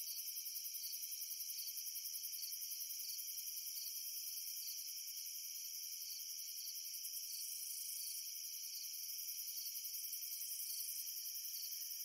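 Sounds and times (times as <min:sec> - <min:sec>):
crickets chirping: 0:00.1 - 0:12.0.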